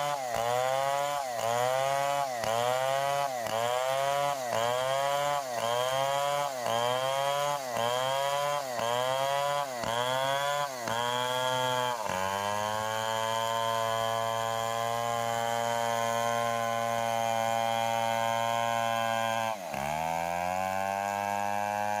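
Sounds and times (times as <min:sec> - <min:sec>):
chainsaw engine at high revs: 0:00.0 - 0:22.0.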